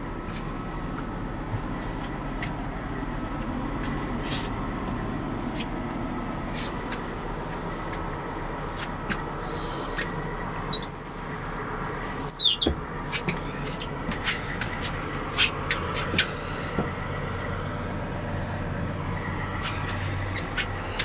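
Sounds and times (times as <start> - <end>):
bus engine hum: 0.0 - 21.0.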